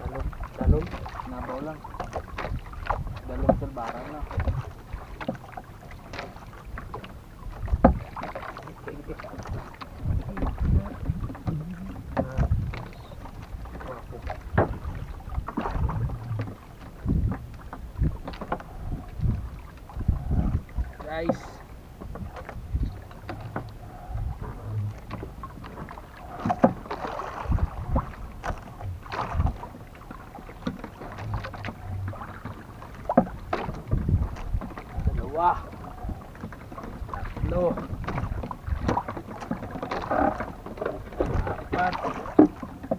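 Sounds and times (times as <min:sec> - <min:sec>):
knocks and bumps on boat: 0:00.0 - 0:42.9
wind rumbling on microphone: 0:00.0 - 0:42.9.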